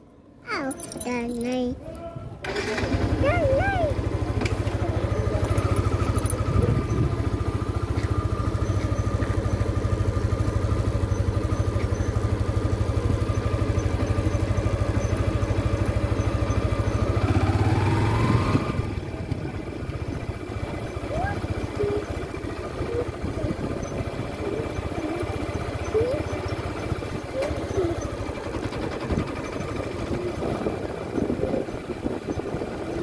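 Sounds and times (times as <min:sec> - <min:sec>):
small vehicle engine running: 0:02.4 - 0:33.0.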